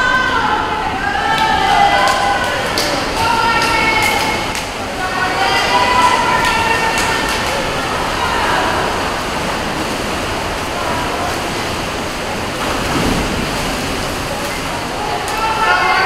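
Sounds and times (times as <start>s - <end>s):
spectators' voices: 0.0s - 16.0s
swimmers splashing: 0.0s - 16.0s.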